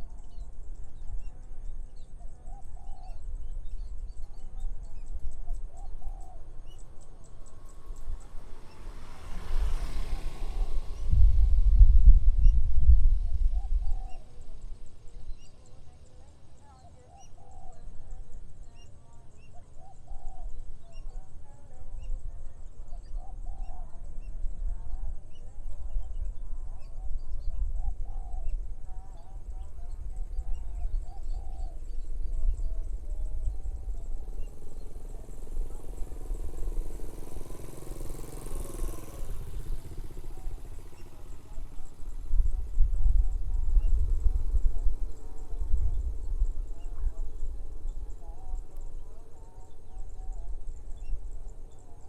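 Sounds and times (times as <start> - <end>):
wind rumble on microphone: 0.0 - 52.0
motorcycle passing by: 0.2 - 52.0.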